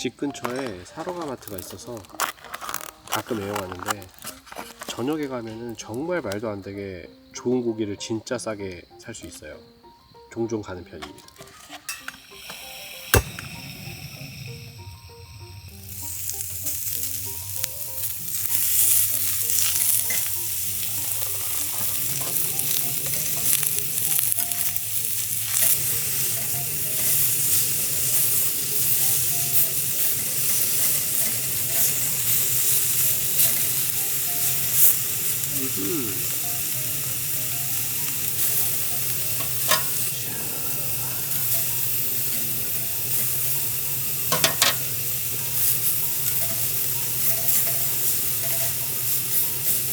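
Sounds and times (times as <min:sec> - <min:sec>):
beef sizzling on a griddle: 0:00.0 - 0:05.4, 0:11.6 - 0:49.9.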